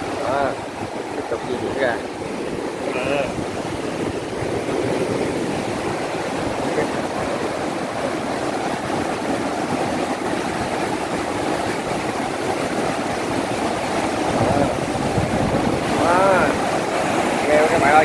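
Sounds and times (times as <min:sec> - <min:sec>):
water rushing through sluice gate: 0:00.0 - 0:18.0.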